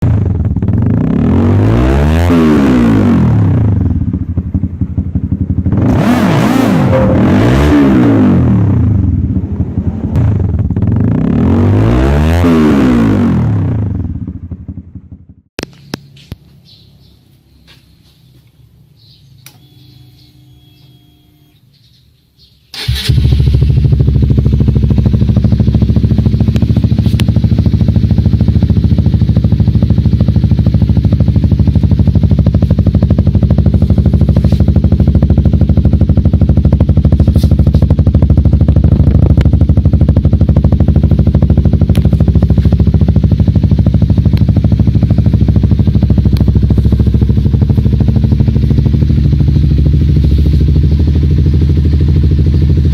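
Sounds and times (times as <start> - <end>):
motorcycle engine running: 0.0 - 22.0, 22.8 - 52.9.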